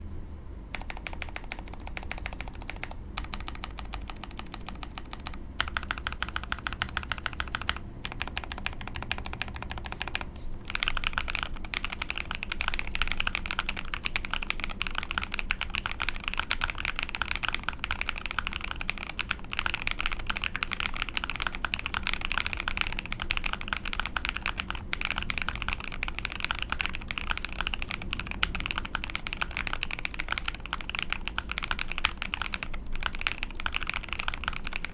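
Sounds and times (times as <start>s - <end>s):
typing on mechanical keyboard: 0.7s - 34.9s.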